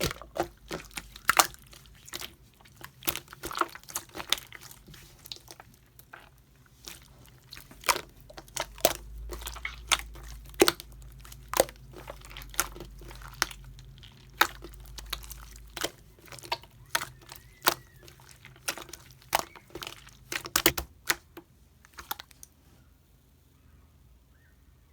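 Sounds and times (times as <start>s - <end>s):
slime squished by hand: 0.0s - 22.6s.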